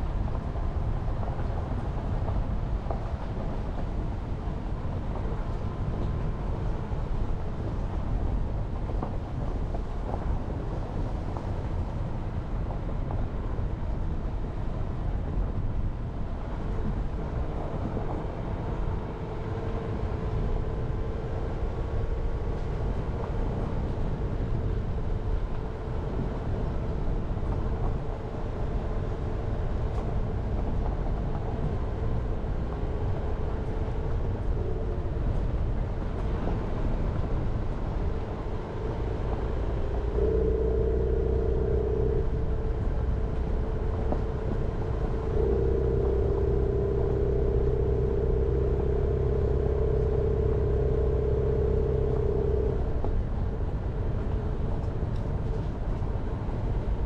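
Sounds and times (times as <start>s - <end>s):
engine and tyres rumbling on road: 0.0s - 57.0s
faint engine hum: 0.0s - 57.0s.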